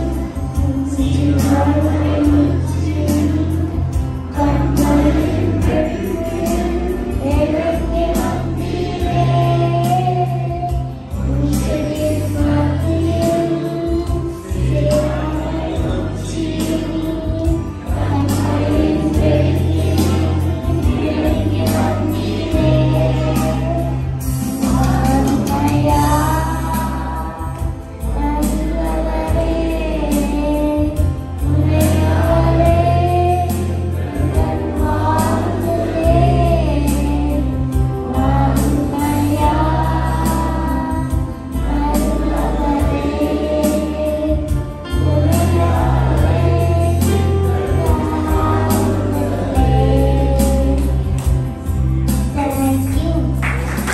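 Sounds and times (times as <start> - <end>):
girl singing into a microphone: 0.0 - 51.3, 52.3 - 53.4
instrumental backing with bass and drums: 0.0 - 53.9.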